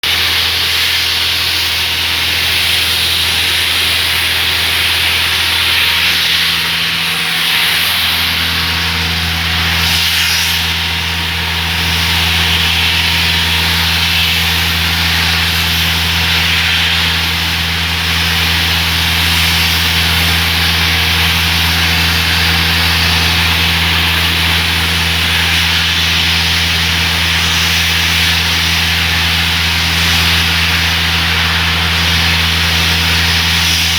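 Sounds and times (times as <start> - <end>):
construction machine engine hum: 0.0 - 33.9.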